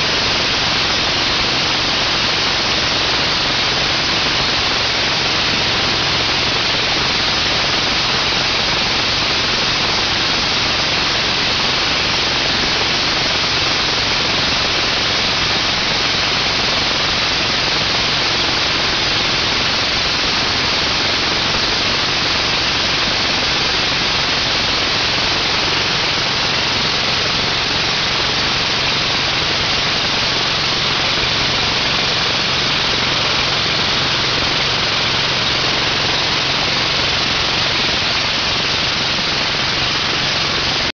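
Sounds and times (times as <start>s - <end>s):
pressure washer engine running: 0.0s - 40.9s
steady hiss: 0.0s - 40.9s.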